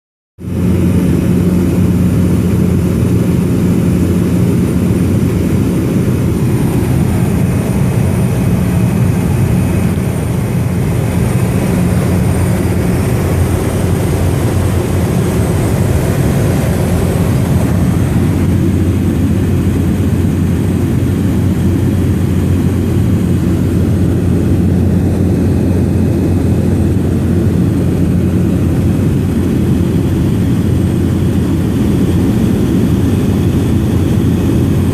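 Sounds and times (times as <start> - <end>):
propeller aircraft engine humming: 0.4 - 34.9.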